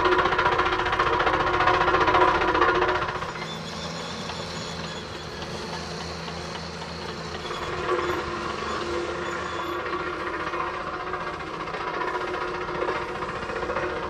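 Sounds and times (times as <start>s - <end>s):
bulldozer diesel engine running: 0.0s - 14.0s
roller engine: 0.0s - 14.0s.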